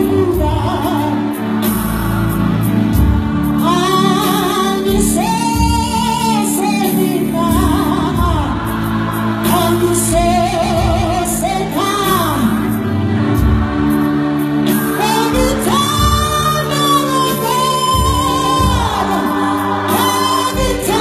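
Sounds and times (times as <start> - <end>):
choir singing: 0.0 - 5.7, 6.5 - 21.0.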